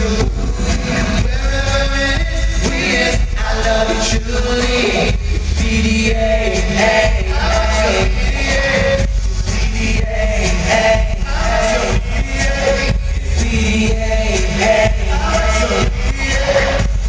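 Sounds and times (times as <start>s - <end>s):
amplified backing music: 0.0s - 17.0s
male vocal group singing harmony: 0.0s - 17.0s.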